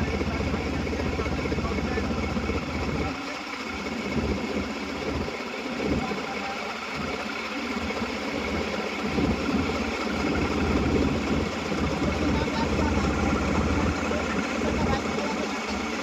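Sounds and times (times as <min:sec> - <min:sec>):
engine running with low pulsing: 0:00.0 - 0:16.0.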